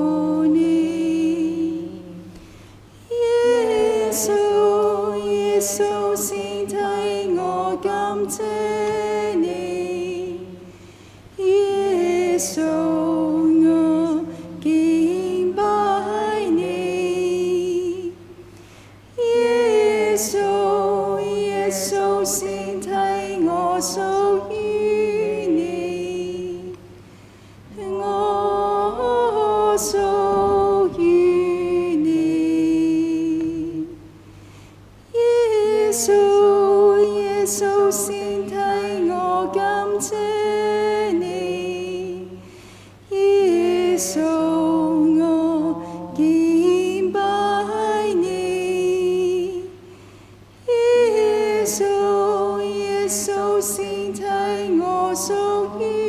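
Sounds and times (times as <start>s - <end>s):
person singing a hymn unaccompanied: 0.0s - 56.0s.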